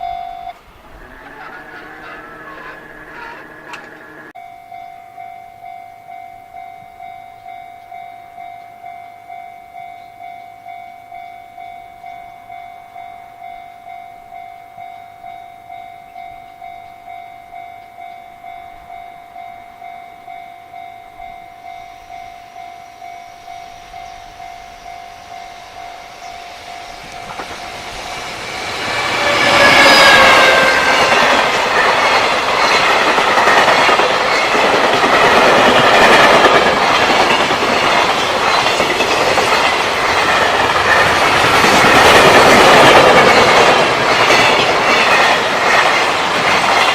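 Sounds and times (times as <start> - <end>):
level-crossing warning bell: 0.0 - 46.9
train passing on rails: 0.0 - 46.9.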